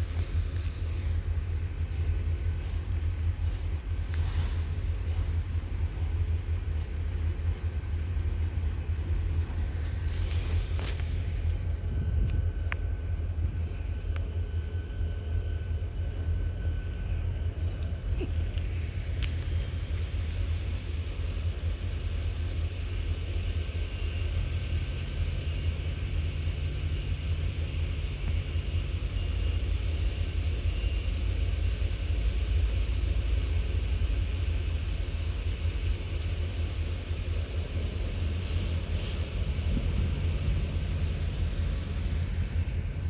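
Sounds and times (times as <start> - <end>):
locomotive engine rumbling: 0.0 - 43.0.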